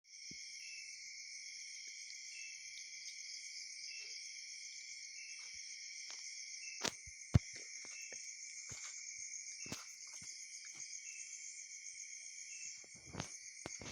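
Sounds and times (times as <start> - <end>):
insects chorus: 0.1 - 13.9.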